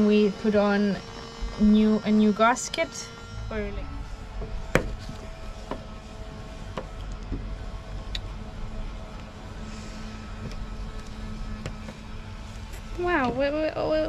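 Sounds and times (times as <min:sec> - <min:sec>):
machinery hum and rumble: 0:00.0 - 0:14.0.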